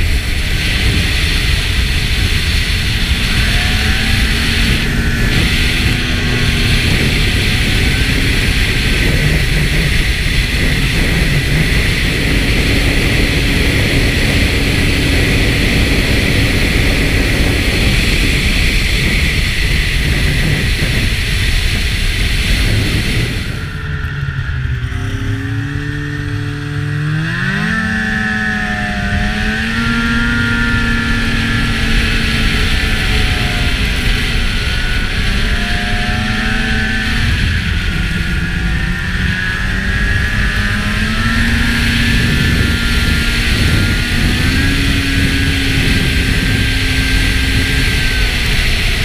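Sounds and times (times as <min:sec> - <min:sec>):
snowmobile engine running: 0:00.0 - 0:49.0
wind rumble on microphone: 0:00.0 - 0:49.0.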